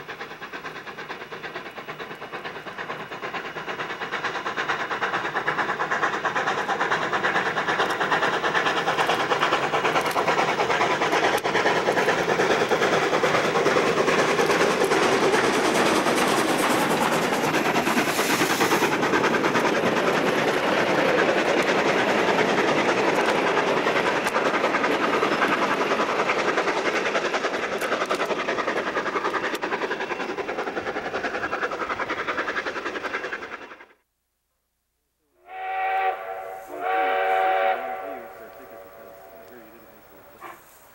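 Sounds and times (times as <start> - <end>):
steam locomotive exhaust beat: 0.0 - 34.1, 35.4 - 40.9.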